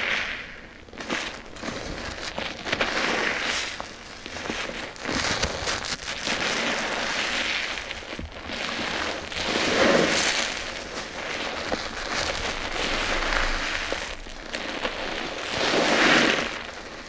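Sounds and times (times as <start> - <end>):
sponges squelching in suds: 1.0 - 17.0.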